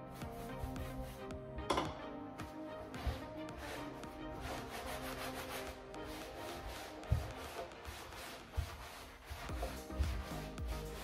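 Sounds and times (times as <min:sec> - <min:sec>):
wax scrubbing on wood: 0:00.0 - 0:01.3, 0:02.9 - 0:11.0
soft background music: 0:00.0 - 0:11.0.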